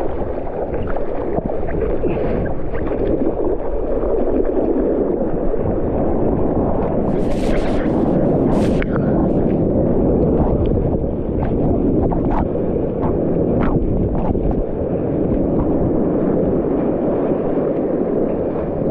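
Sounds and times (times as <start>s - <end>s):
muffled surf and wind rumble: 0.0s - 18.9s.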